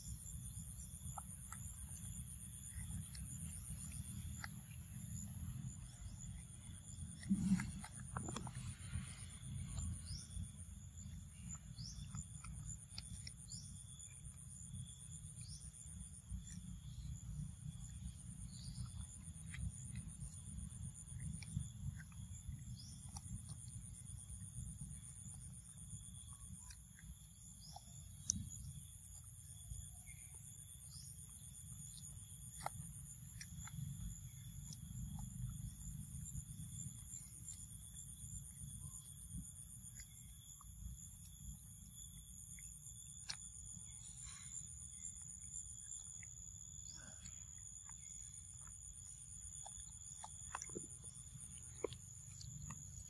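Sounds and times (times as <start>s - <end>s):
insects trilling and buzzing: 0.0s - 53.0s.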